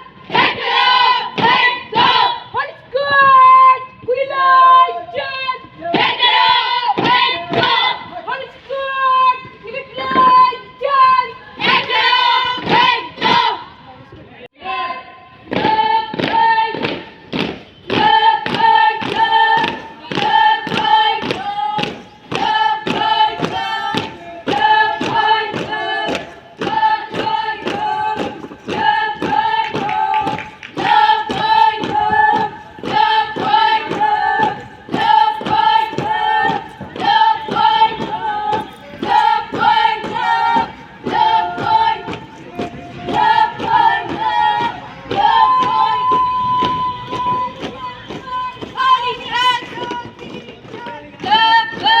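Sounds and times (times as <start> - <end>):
chorus singing: 0.0 - 3.4, 4.2 - 13.7, 14.6 - 17.2, 17.8 - 52.0.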